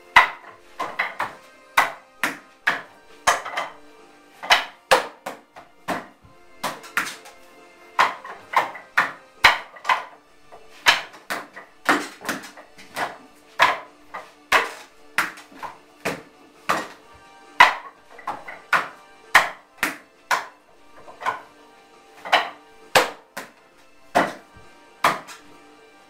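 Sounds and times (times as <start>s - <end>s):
hands knocking on wooden dummy: 0.2s - 3.7s, 4.4s - 7.4s, 8.0s - 21.5s, 22.2s - 25.4s.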